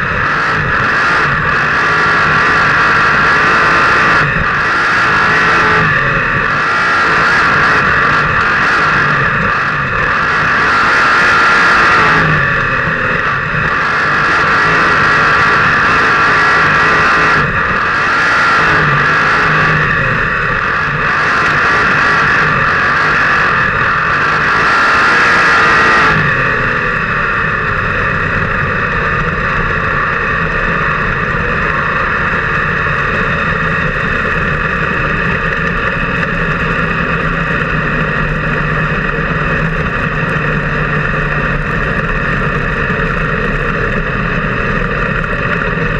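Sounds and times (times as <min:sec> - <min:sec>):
race car engine surging: 0:00.0 - 0:45.9.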